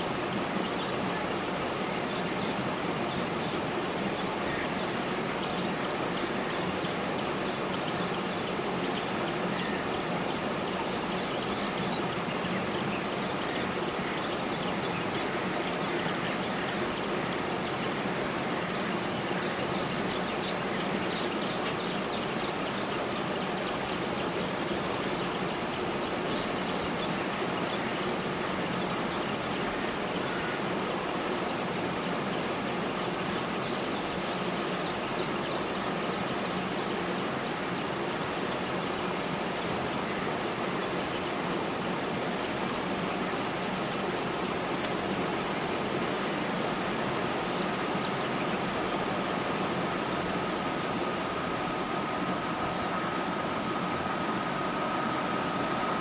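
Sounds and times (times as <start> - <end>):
steady rushing hiss: 0.0 - 56.0.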